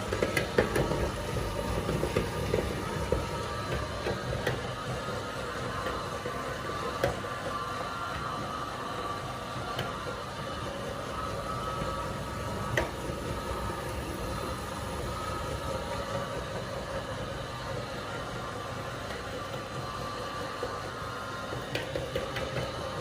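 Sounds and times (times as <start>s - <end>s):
meat grinder motor hum: 0.0s - 23.0s.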